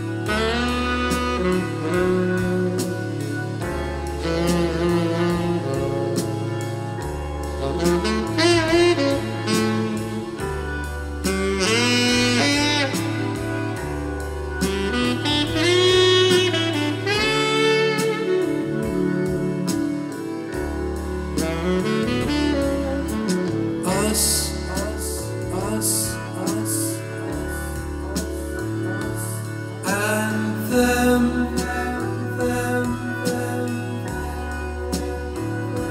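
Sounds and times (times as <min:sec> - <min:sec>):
music with gliding lead melody: 0:00.0 - 0:35.9.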